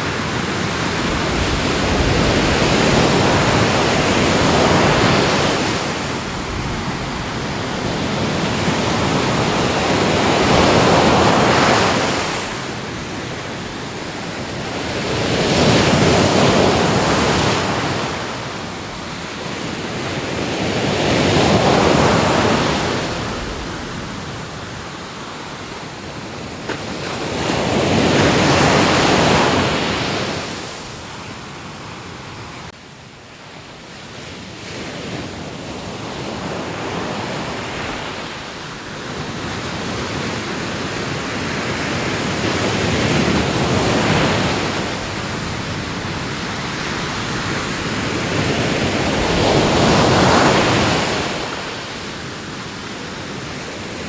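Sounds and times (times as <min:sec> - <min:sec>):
ocean waves breaking: 0:00.0 - 0:32.7, 0:34.9 - 0:54.0.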